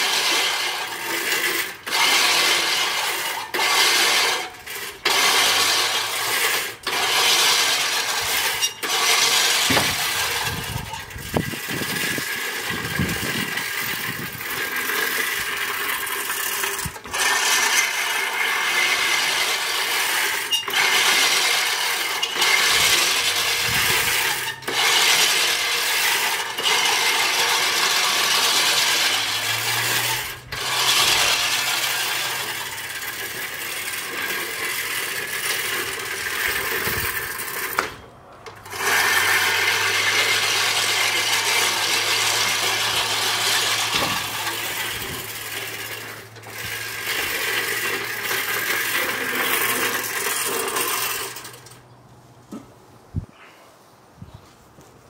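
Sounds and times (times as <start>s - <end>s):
reel mower blades clattering: 0.0s - 52.8s.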